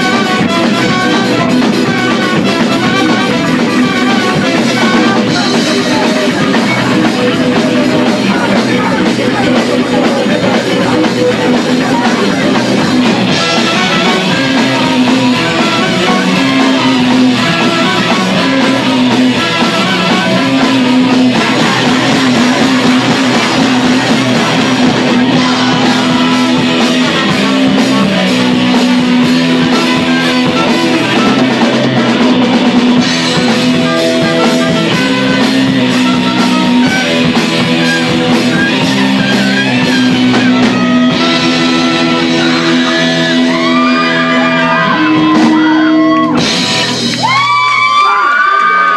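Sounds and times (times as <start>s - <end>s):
drum kit: 0.0s - 48.9s
electric bass: 0.0s - 48.9s
electric guitar: 0.0s - 48.9s.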